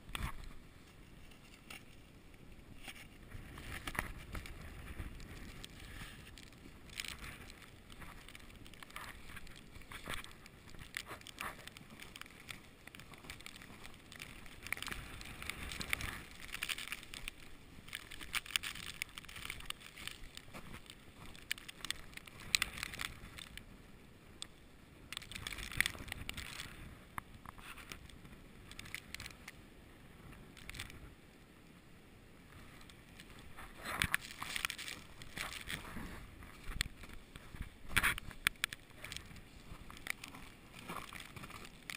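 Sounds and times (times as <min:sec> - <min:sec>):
crackles and crunches: 0:00.0 - 0:31.5, 0:32.4 - 0:41.9.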